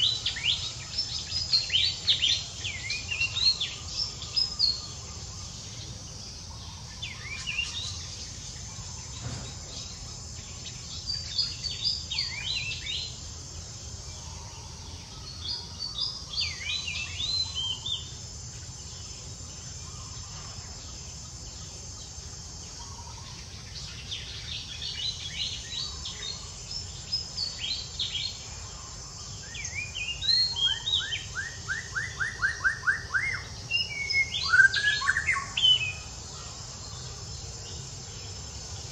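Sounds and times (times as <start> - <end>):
steady high hiss: 0.0 - 38.9.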